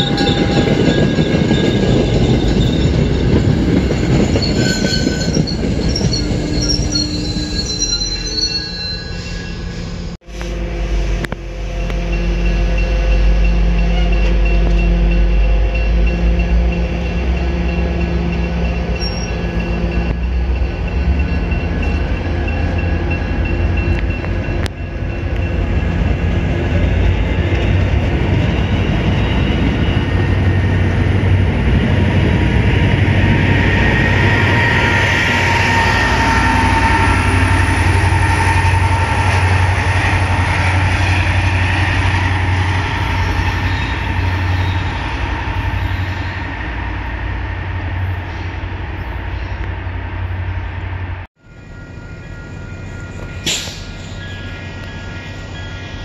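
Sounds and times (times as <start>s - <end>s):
diesel locomotive passing: 0.0s - 56.0s
train coaches rolling on track: 0.0s - 56.0s.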